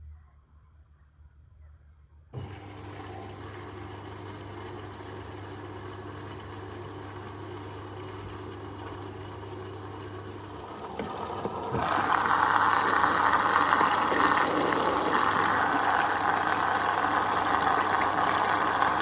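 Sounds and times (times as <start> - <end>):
washing machine water rushing: 2.4 - 19.0.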